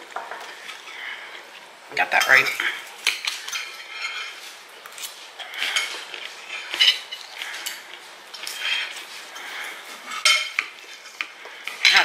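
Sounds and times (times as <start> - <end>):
knife and fork scraping a plate: 2.2 - 12.0.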